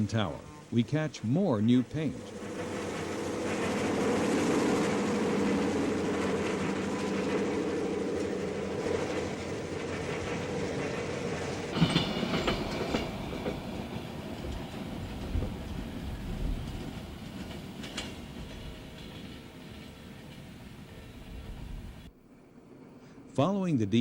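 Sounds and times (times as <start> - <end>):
locomotive engine drone: 0.0 - 24.0
train cars rolling with wheel clicks: 1.9 - 21.8.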